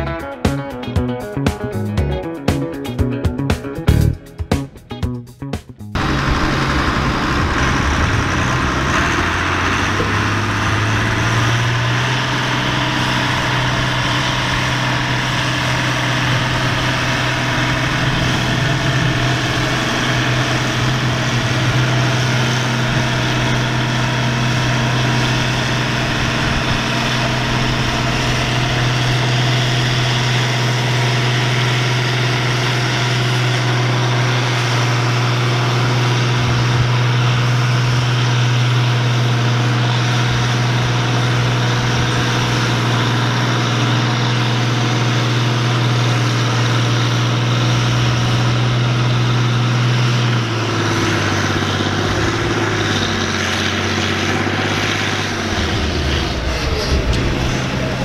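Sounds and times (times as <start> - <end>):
tractor diesel engine under load: 5.9 - 58.0.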